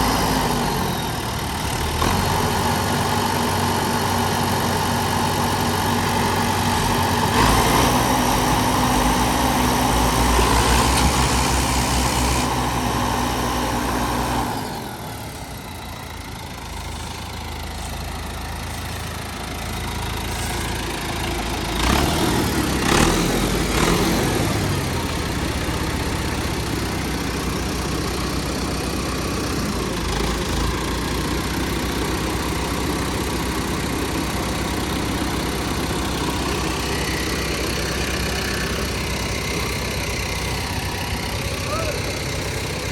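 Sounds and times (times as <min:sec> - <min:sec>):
tractor diesel engines running: 0:00.0 - 0:42.9.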